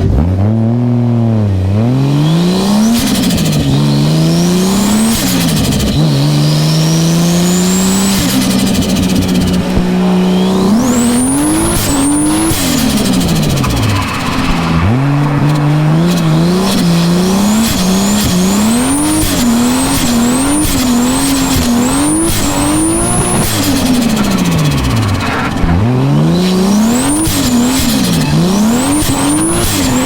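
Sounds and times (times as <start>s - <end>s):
car engine revving: 0.0s - 30.0s
high whistle: 2.0s - 30.0s.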